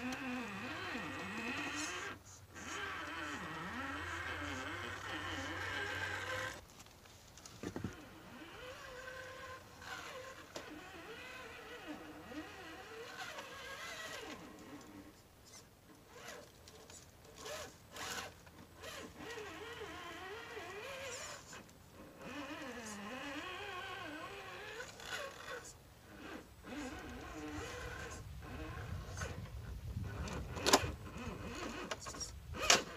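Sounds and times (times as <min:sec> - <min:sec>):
electric motor and gears whining: 0:00.0 - 0:32.9.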